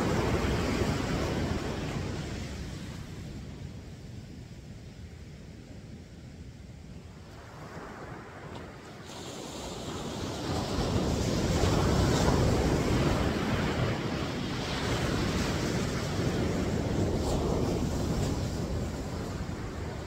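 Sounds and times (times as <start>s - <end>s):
wave breaking on beach: 0.0s - 3.6s, 7.4s - 20.0s
wind on microphone: 0.0s - 20.0s.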